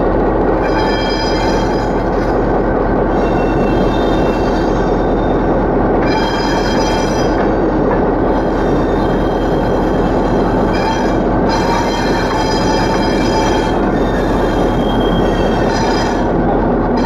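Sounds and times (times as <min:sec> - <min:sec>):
diesel locomotive running: 0:00.0 - 0:17.0
high-pitched wheel squeal: 0:00.6 - 0:16.5.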